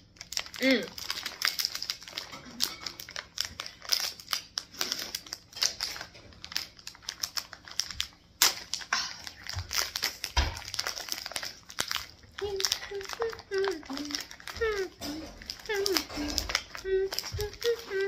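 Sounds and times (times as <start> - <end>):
snack packaging crinkling: 0.0 - 18.0.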